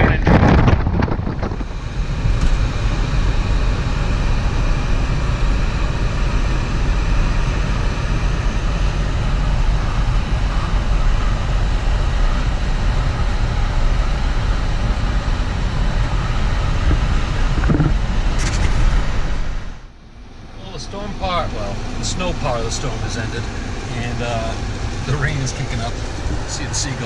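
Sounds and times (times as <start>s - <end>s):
car rumble inside cabin: 0.0s - 27.0s
storm wind: 0.0s - 27.0s.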